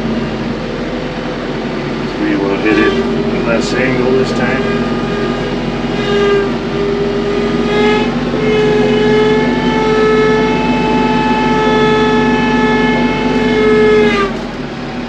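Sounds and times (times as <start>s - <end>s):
tractor engine under load: 0.0s - 15.0s.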